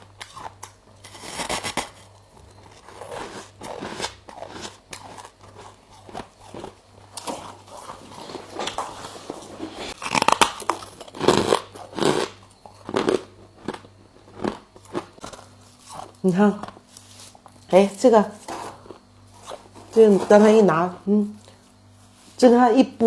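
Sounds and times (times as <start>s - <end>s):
chewing frost crunches: 0.2s - 20.1s.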